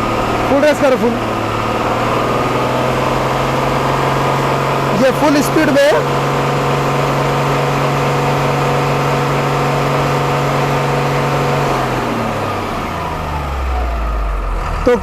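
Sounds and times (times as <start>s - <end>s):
truck diesel engine revving: 0.0s - 15.0s.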